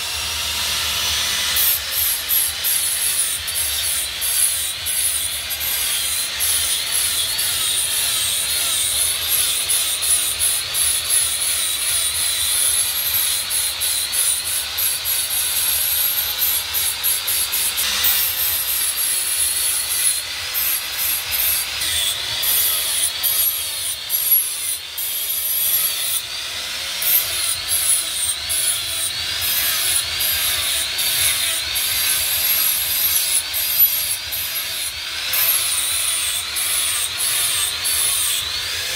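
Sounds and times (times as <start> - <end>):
angle grinder whining on metal: 0.0 - 38.9.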